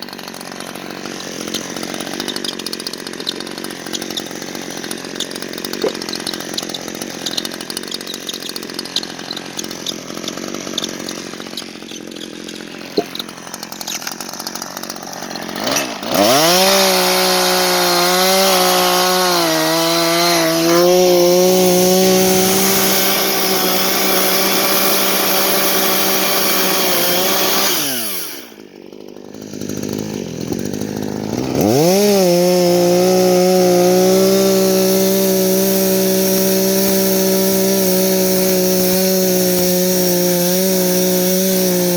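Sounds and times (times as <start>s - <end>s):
chainsaw engine revving: 0.0s - 41.9s.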